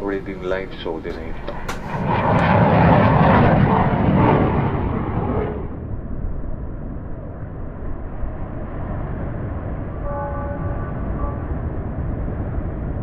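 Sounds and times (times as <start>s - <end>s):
jet engines and cabin rumble: 0.0s - 13.0s.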